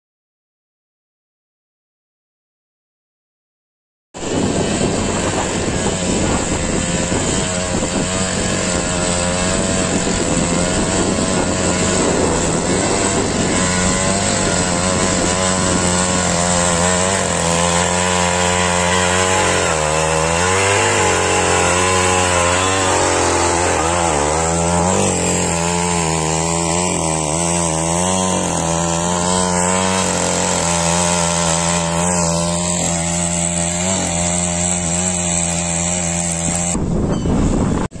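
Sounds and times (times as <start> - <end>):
tines churning soil: 4.2 - 36.8
tiller engine running: 4.2 - 38.0.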